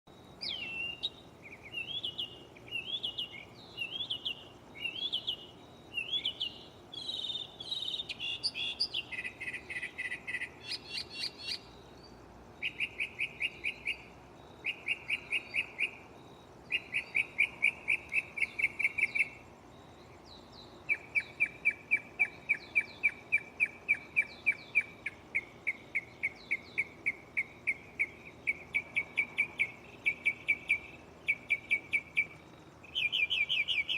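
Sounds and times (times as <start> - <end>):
mockingbird singing: 0.4 - 33.9.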